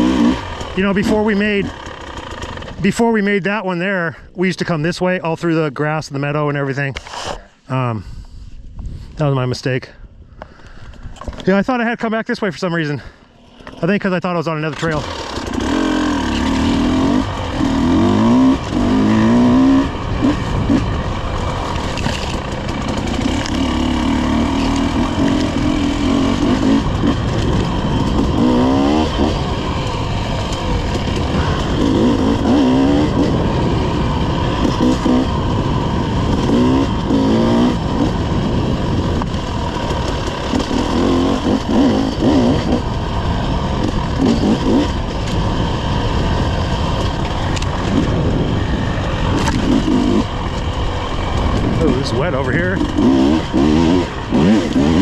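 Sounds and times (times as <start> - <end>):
dirt bike engine revving: 0.0 - 3.2, 13.4 - 55.0
wind: 0.0 - 55.0.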